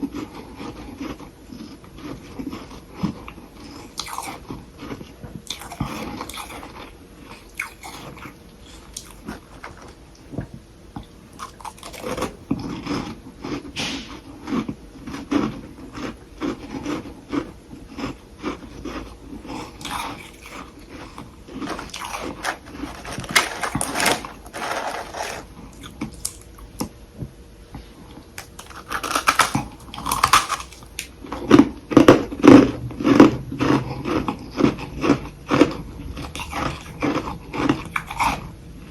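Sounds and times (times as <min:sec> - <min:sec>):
crisp chewing crunches: 0:00.0 - 0:26.9, 0:28.4 - 0:38.5.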